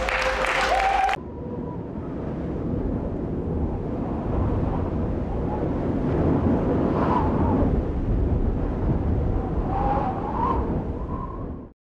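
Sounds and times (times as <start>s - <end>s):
low rumbling rush of noise: 0.0s - 11.7s.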